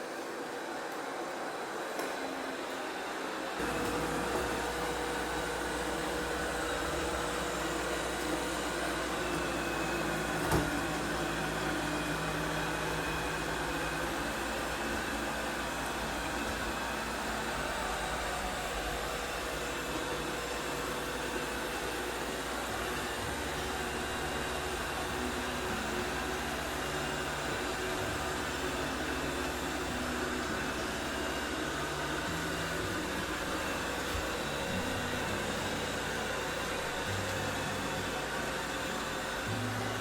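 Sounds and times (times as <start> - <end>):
robot vacuum cleaner whirring: 0.0 - 40.0.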